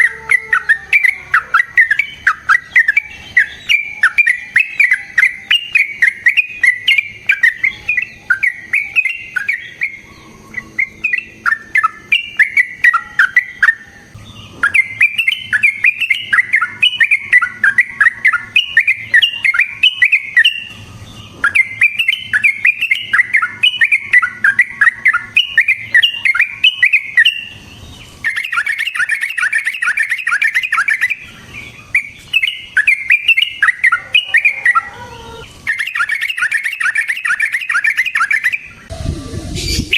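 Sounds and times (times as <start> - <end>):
bird singing bubbling notes: 0.0 - 39.9.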